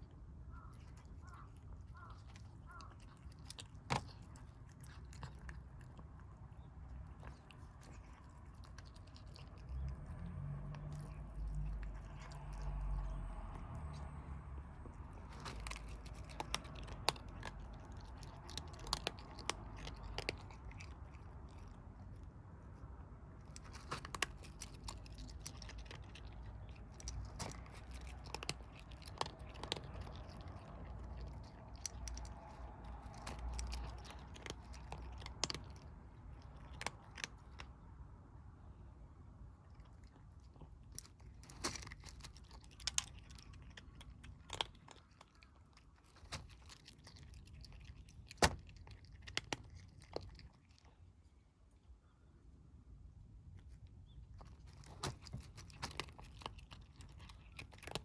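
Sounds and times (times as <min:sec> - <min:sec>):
kittens chewing food: 0:00.0 - 0:58.0
low steady rumble: 0:00.0 - 0:58.0.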